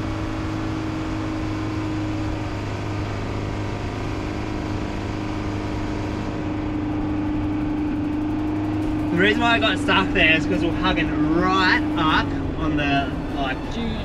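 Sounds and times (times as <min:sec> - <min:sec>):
truck diesel engine under load: 0:00.0 - 0:14.0.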